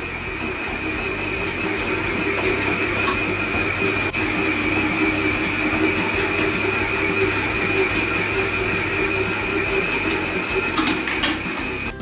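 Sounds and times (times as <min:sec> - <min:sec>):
stand mixer kneading dough: 0:00.0 - 0:12.0.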